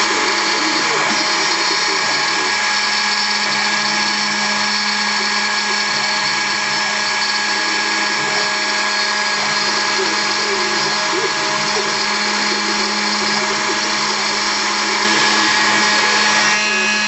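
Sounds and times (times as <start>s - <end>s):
cutting noise: 0.0s - 17.0s
router spindle motor whine: 0.0s - 17.0s.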